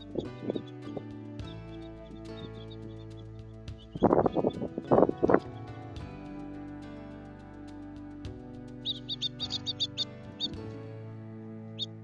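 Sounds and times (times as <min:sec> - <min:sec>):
soft music with sustained chords: 0:00.0 - 0:12.0.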